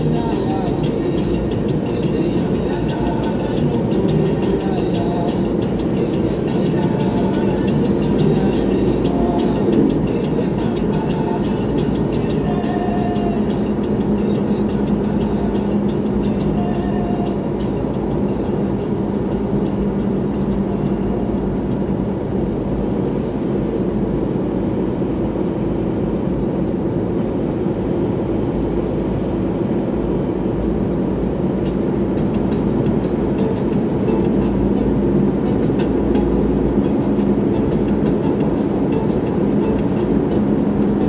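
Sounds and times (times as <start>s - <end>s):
vehicle engine and tyres droning: 0.0s - 41.0s.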